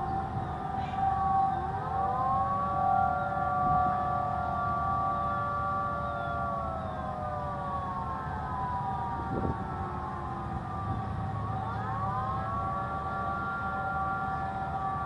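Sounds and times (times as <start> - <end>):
tornado warning sirens: 0.0 - 15.0.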